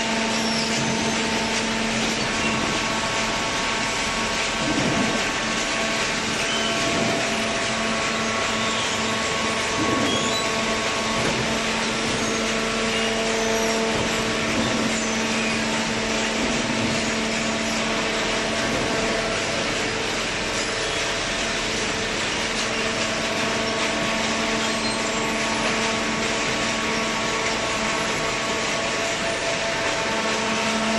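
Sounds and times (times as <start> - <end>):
baling machine droning: 0.0 - 30.9.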